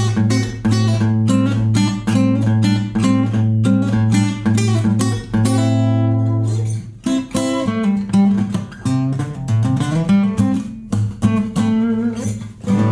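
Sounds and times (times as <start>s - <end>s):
acoustic guitar playing: 0.0s - 12.9s.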